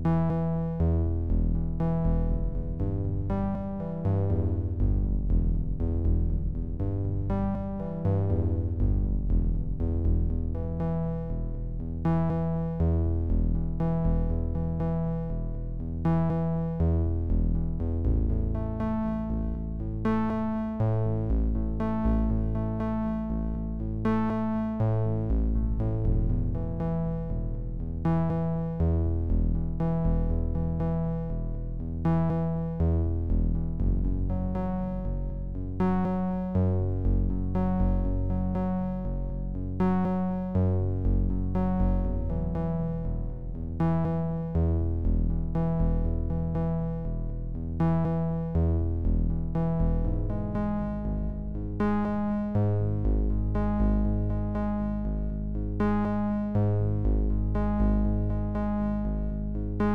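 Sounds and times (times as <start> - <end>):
synthesizer chords over bass: 0.0 - 59.9.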